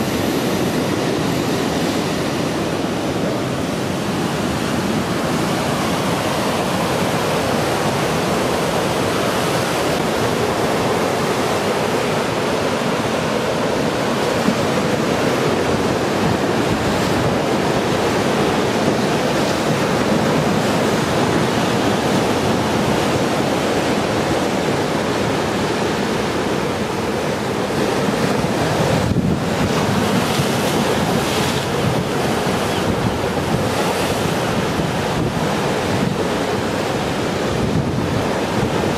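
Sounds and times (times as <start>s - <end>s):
waves breaking against a wall: 0.0s - 38.9s
wind buffeting microphone: 0.0s - 38.9s.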